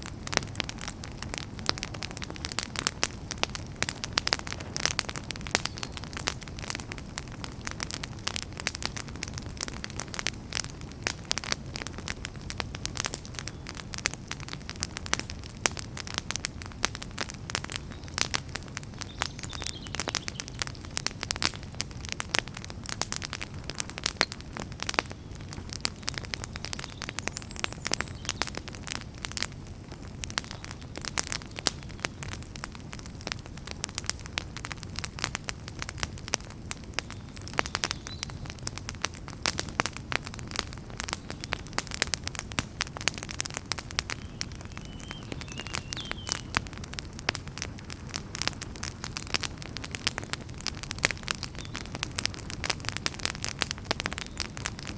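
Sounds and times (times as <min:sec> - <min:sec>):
campfire crackling and popping: 0:00.0 - 0:54.9
low rumble of burning fire: 0:00.0 - 0:54.9.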